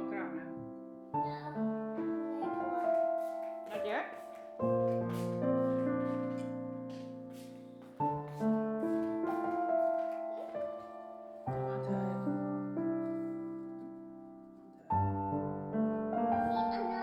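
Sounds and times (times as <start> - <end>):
slow soft piano chords: 0.0 - 17.0.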